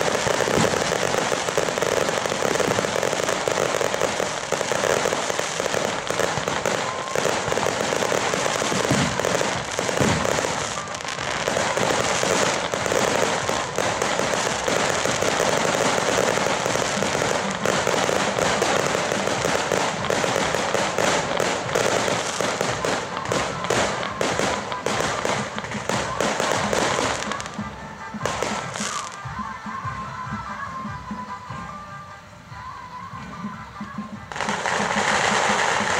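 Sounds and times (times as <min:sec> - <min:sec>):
fireworks crackling and popping: 0:00.0 - 0:35.9.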